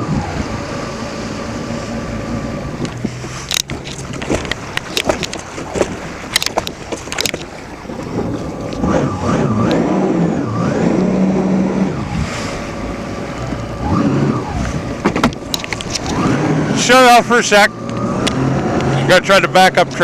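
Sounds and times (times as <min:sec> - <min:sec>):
watercraft engine running: 0:00.0 - 0:20.0.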